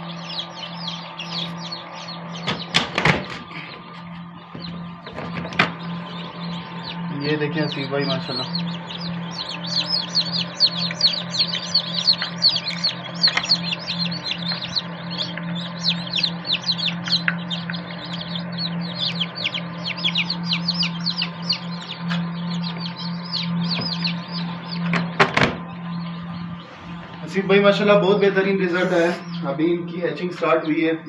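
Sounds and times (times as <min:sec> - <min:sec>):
chicks peeping: 0:00.0 - 0:31.0
incubator humming: 0:00.0 - 0:31.0.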